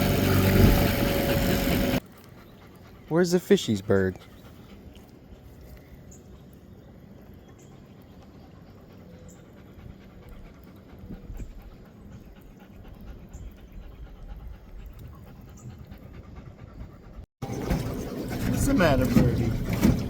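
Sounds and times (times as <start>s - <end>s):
dog panting: 0.2s - 5.3s, 7.6s - 20.0s.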